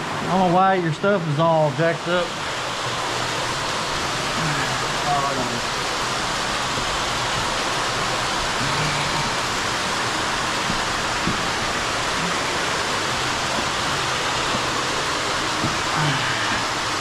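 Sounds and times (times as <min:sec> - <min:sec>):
water flowing in a cave: 0:00.0 - 0:17.0.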